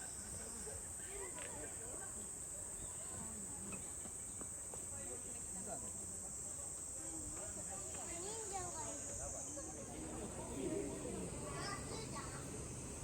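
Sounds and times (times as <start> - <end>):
faint voices talking: 1.2 - 13.0.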